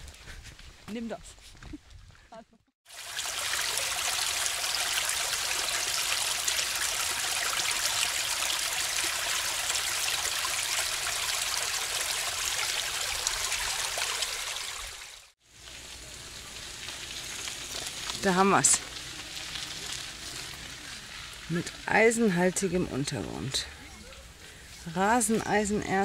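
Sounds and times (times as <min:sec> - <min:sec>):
brook running over pebbles: 0:02.9 - 0:26.0.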